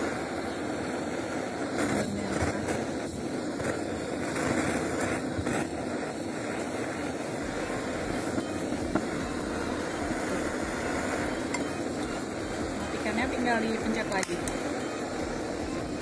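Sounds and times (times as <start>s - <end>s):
gas torch flame hissing: 0.0s - 16.0s.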